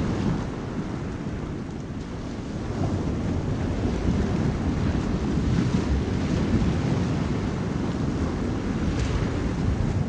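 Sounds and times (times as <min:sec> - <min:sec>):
ocean surf: 0:00.0 - 0:10.0
wind: 0:00.0 - 0:10.0.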